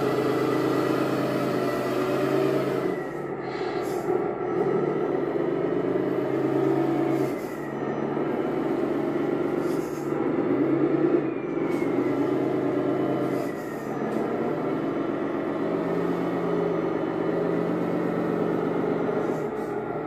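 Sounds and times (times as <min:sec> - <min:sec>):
rc truck engine drone: 0:00.0 - 0:20.0.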